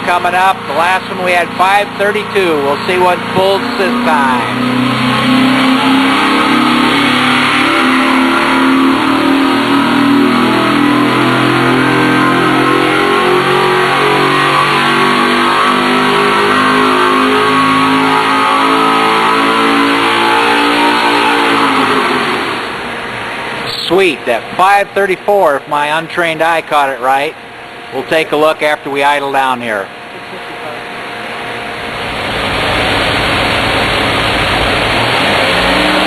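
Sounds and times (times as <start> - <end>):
engine revving at full throttle: 0.0 - 36.0.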